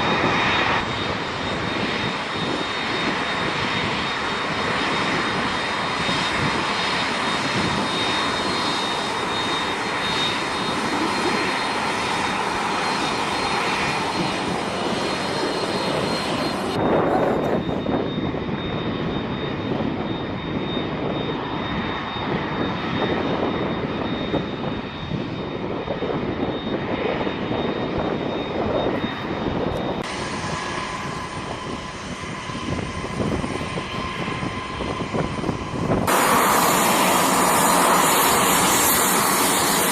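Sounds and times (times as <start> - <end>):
high turbine whine: 0.0 - 39.9
jet engines roaring: 0.0 - 39.9.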